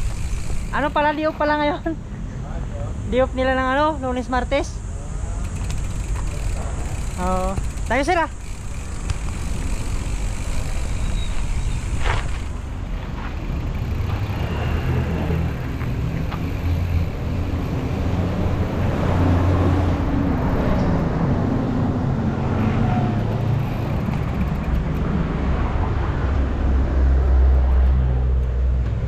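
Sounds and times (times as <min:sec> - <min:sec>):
vehicle engine running: 0:00.0 - 0:02.0, 0:05.2 - 0:20.9, 0:21.9 - 0:29.0
road and wind noise: 0:00.0 - 0:29.0.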